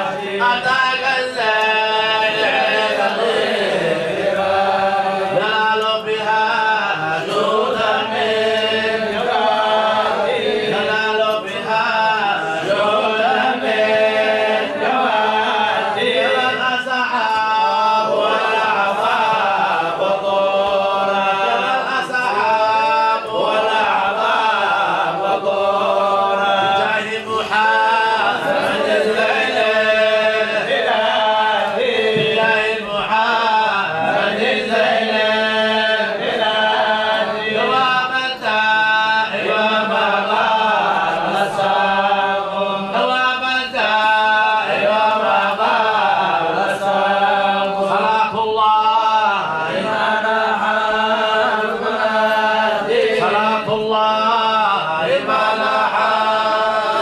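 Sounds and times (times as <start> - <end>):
group of men chanting: 0.0 - 57.0.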